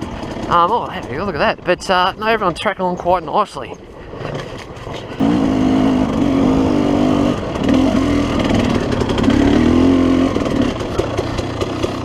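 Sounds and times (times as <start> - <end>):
dirt bike engine under throttle: 0.0 - 2.3, 4.2 - 12.0.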